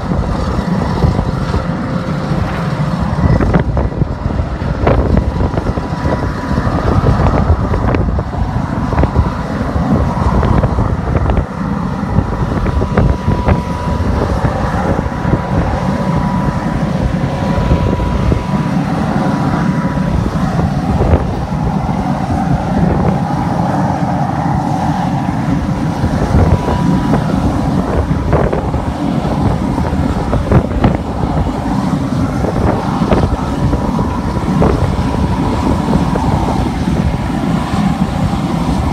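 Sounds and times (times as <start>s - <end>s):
diesel tractor engine running: 0.0s - 38.9s
steady high whine: 0.0s - 38.9s
wind buffeting microphone: 0.0s - 38.9s.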